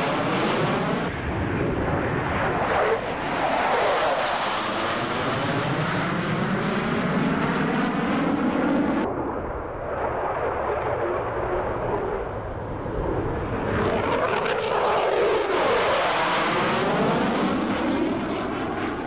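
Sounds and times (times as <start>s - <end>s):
jets flying past roaring: 0.0s - 19.0s.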